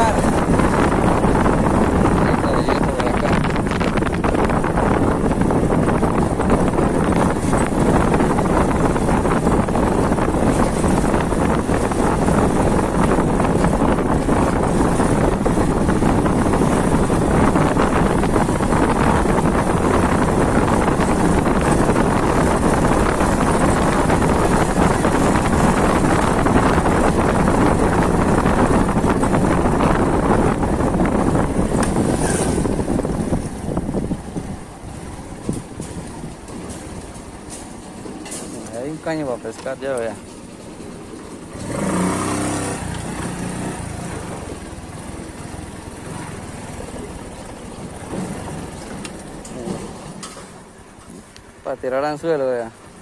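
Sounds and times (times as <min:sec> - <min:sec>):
motorcycle engine and tyre noise: 0:00.0 - 0:53.0
wind buffeting microphone: 0:00.0 - 0:53.0.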